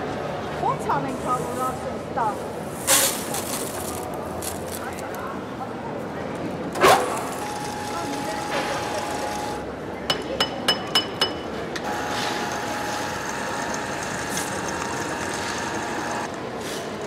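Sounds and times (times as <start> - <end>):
background hubbub: 0.0 - 17.0.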